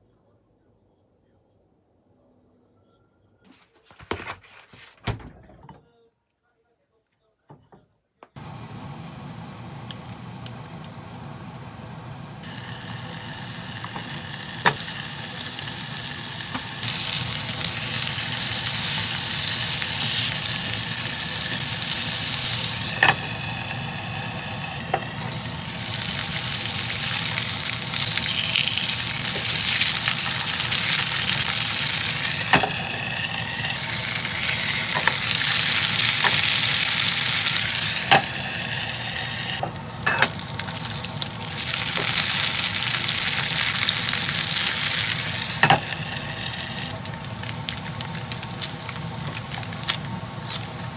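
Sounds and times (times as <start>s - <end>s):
pork sizzling in a pan: 8.4s - 50.9s.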